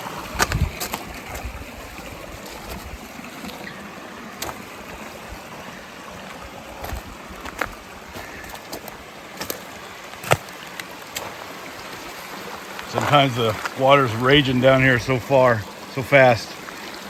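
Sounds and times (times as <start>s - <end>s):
creek flowing over waterfall: 0.0s - 17.0s.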